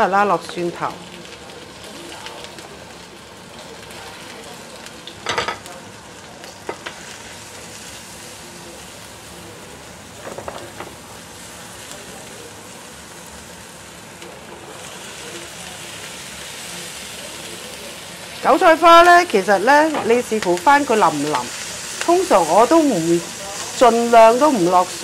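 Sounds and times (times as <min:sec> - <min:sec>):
garlic sizzling in oil: 0:00.0 - 0:25.0.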